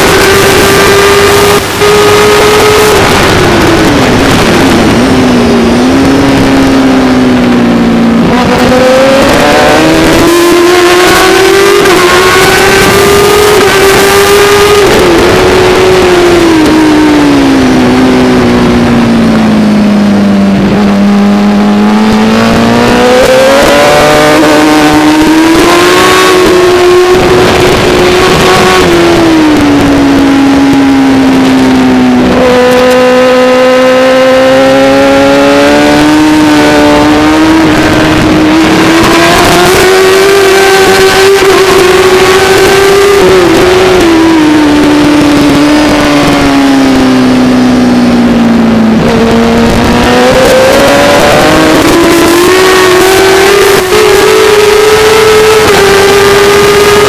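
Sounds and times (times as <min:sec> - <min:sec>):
racing motorcycle engine revving: 0:00.0 - 0:57.0
wind and road noise: 0:00.0 - 0:57.0.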